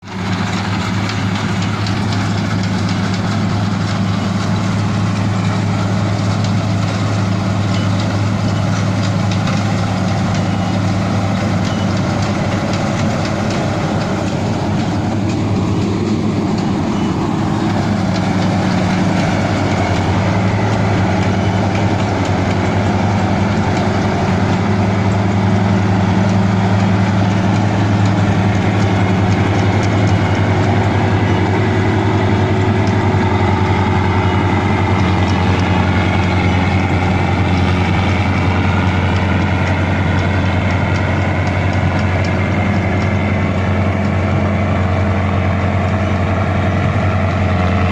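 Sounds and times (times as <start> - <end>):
harvester engine running: 0.0 - 47.9.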